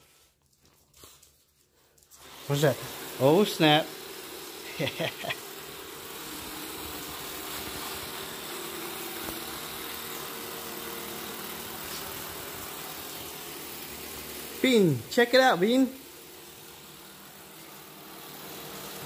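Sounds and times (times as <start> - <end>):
robot vacuum cleaner whirring: 2.2 - 19.0.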